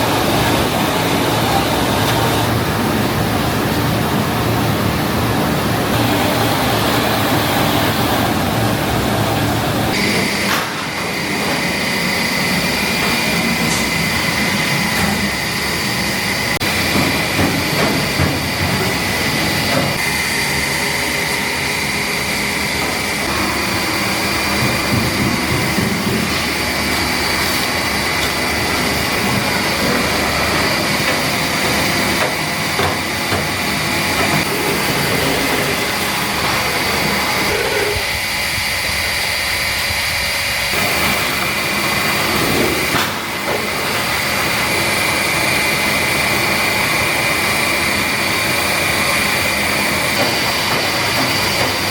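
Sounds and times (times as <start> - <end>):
high machine whines: 0.0 - 51.9
washing machine running with water: 0.0 - 51.9.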